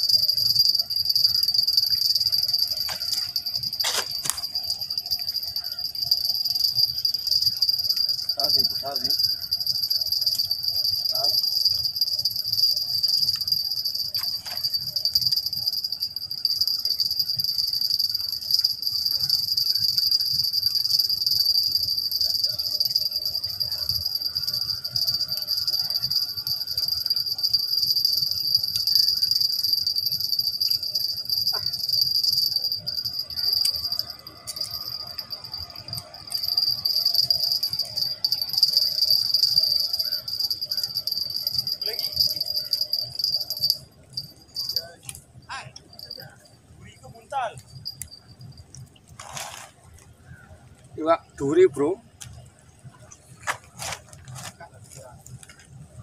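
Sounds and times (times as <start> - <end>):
insects shrilling: 0.0 - 48.9.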